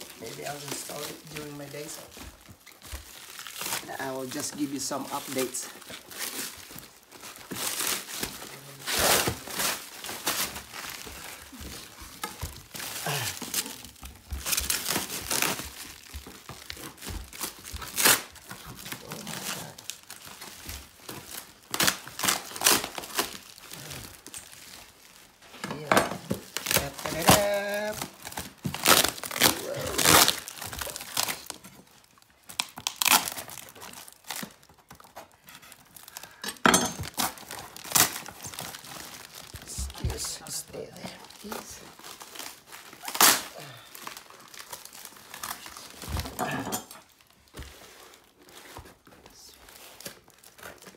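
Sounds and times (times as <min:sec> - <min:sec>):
plastic tearing: 0:00.0 - 0:36.4, 0:37.0 - 0:50.9
plastic wrap crinkling: 0:00.0 - 0:50.9.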